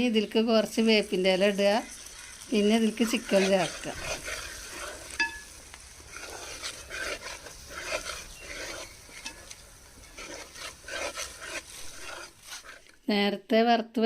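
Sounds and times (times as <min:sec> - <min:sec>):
light sizzle: 0:00.0 - 0:13.1
spices stirred and scraped in pan: 0:00.0 - 0:13.1.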